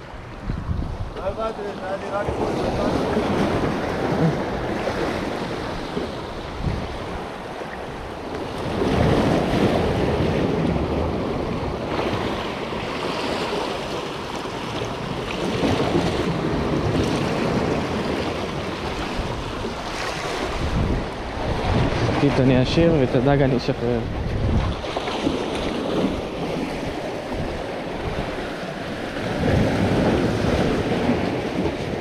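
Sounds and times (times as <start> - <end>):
sea waves washing: 0.0 - 32.0
wind buffeting microphone: 0.0 - 32.0.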